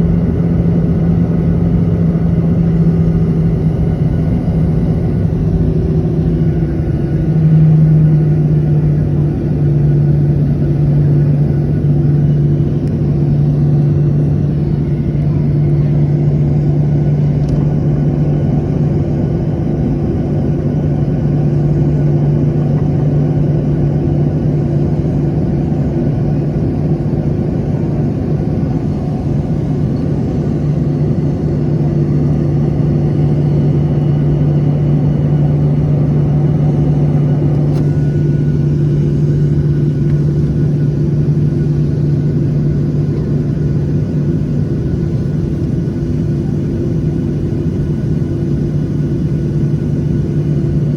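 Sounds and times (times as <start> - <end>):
jet engines humming: 0.0 - 50.9.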